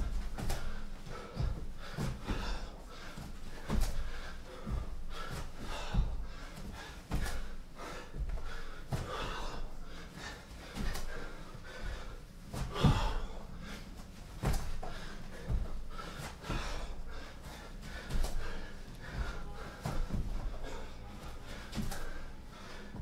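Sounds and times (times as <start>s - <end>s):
man breathing hard and gasping: 0.0s - 23.0s.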